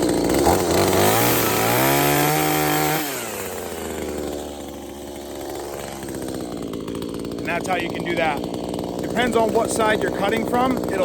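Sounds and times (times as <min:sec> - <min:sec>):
chainsaw cutting at full throttle: 0:00.0 - 0:11.0
chainsaw idling: 0:00.0 - 0:11.0.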